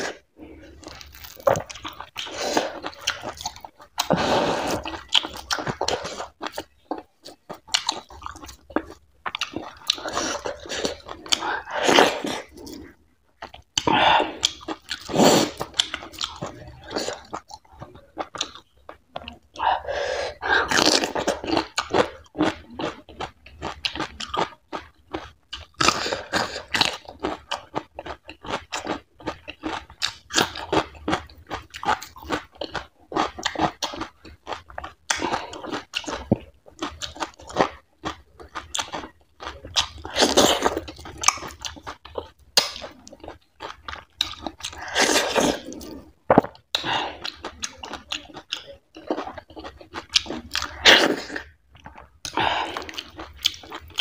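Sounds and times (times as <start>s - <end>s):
crunching while eating: 0.0s - 19.5s, 20.4s - 54.0s
wet chewing and smacking: 0.7s - 19.7s, 20.6s - 54.0s.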